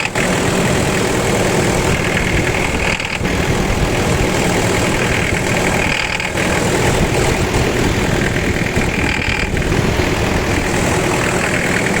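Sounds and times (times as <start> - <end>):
diesel engine idling: 0.0 - 12.0
rapid clattering knock: 1.8 - 12.0.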